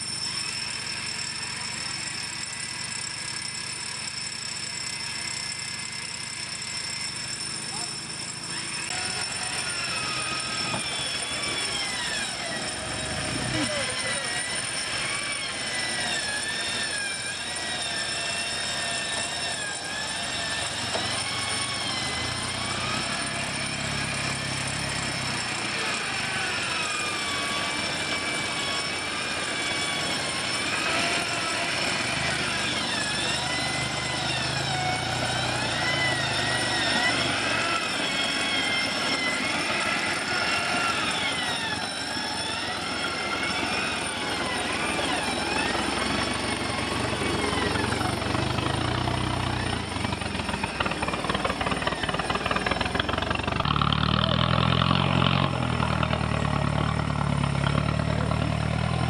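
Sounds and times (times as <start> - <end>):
motors whining: 0.0 - 59.0.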